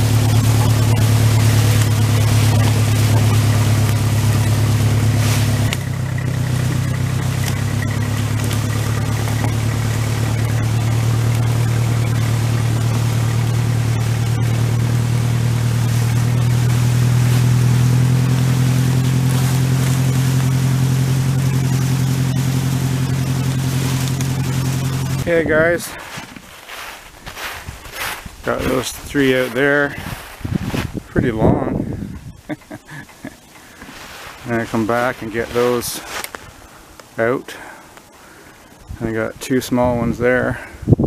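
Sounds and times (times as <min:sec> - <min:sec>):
tractor engine running under load: 0:00.0 - 0:37.2.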